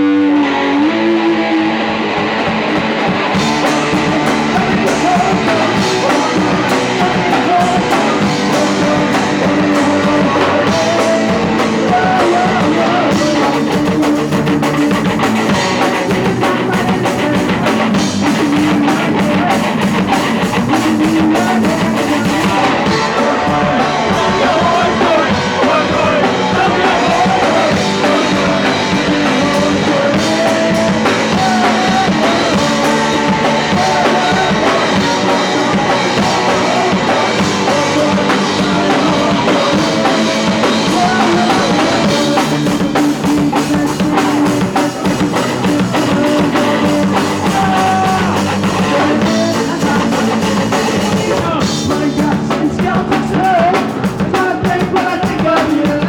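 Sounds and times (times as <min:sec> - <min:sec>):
distorted electric guitar riff: 0:00.0 - 0:56.0
drum kit with crashing cymbals: 0:02.7 - 0:56.0.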